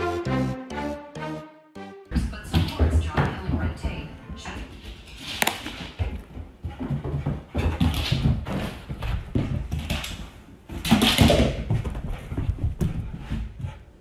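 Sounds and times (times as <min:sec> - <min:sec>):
dog paws clattering on hard floor: 0:02.2 - 0:13.9.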